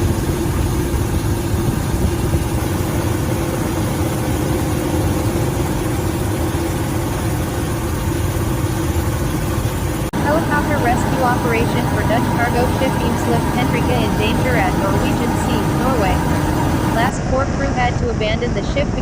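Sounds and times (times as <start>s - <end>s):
helicopter engine and rotor: 0.0s - 17.2s.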